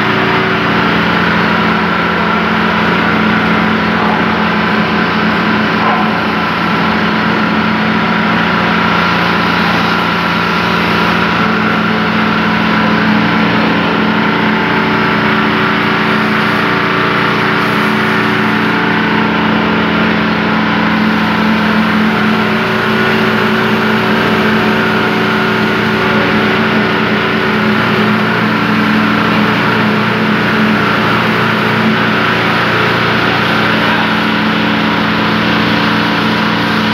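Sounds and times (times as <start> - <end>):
machinery engine humming loudly: 0.0 - 36.9.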